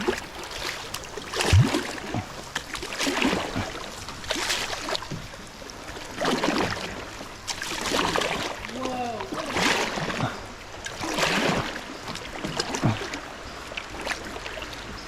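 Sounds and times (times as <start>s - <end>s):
creek water splashing: 0.0s - 15.0s
moving water wash: 0.0s - 15.0s.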